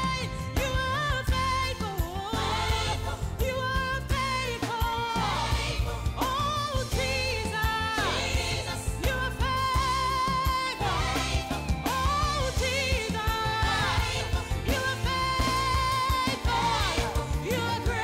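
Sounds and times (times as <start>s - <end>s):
gospel song with sung vocal: 0.0s - 18.0s
steady bass: 0.0s - 18.0s.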